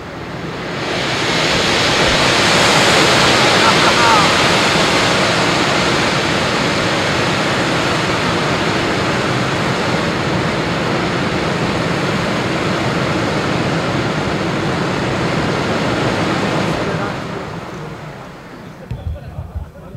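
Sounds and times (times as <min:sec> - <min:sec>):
firework fountains hissing: 0:00.0 - 0:19.9.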